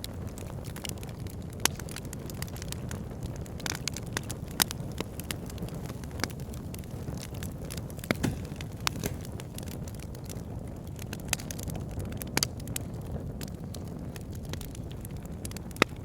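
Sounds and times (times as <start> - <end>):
low rumble of flames: 0.0 - 16.0
wood popping and crackling: 0.0 - 16.0.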